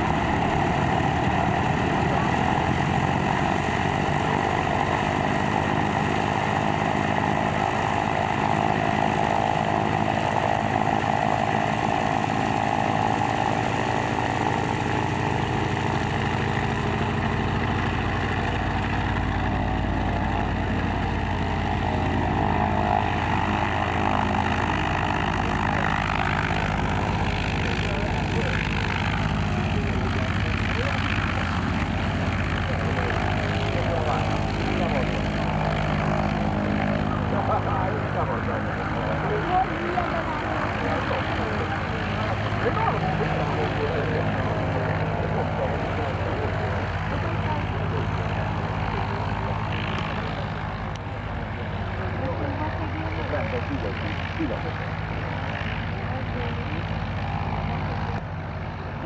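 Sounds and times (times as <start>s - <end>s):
radial aircraft engine running: 0.0s - 59.0s.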